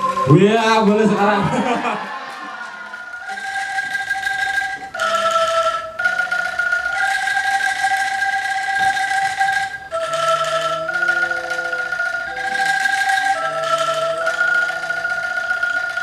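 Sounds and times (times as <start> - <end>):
angklung ensemble melody: 0.0 - 16.0.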